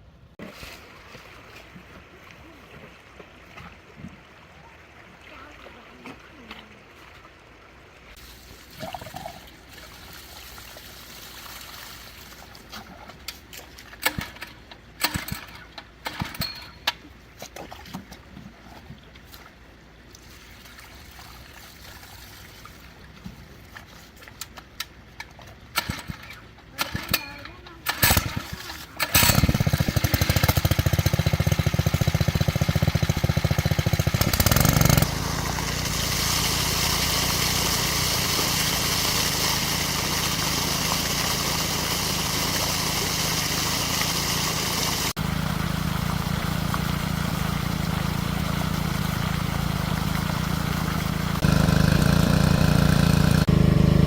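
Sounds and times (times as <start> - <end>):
splashes and knocks: 0.4 - 4.4, 8.1 - 19.6, 20.2 - 44.4, 45.0 - 52.5
stream water trickling: 0.4 - 14.0, 17.8 - 25.7, 28.5 - 52.1.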